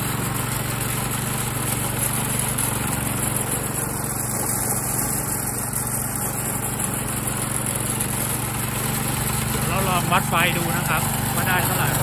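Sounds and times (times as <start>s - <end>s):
small petrol engine humming: 0.0s - 12.0s.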